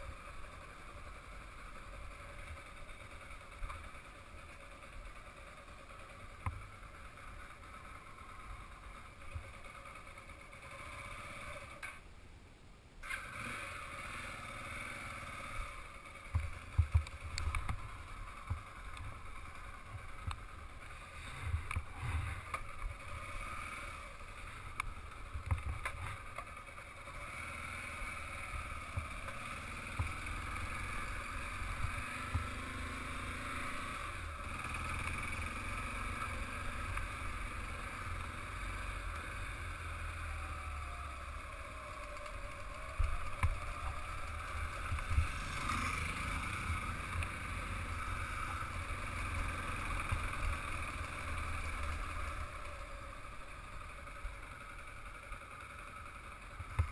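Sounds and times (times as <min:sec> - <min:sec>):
motorcycle engine at low speed: 0:00.0 - 0:12.2, 0:13.0 - 0:56.9.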